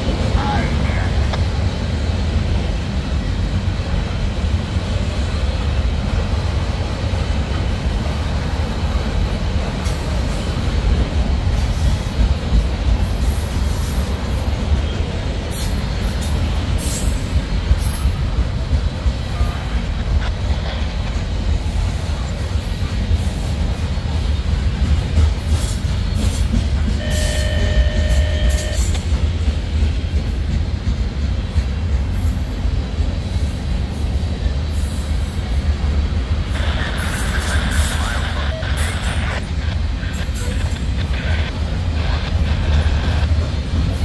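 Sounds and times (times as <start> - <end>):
freight train rumbling: 0.0 - 44.0.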